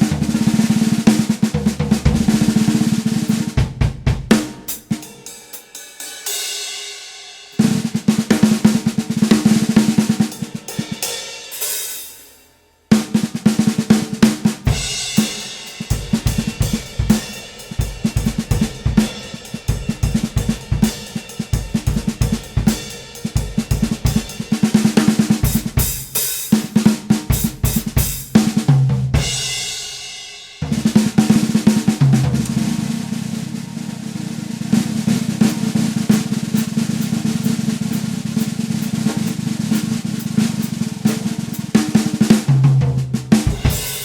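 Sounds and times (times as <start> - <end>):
drum kit playing: 0.0 - 44.0.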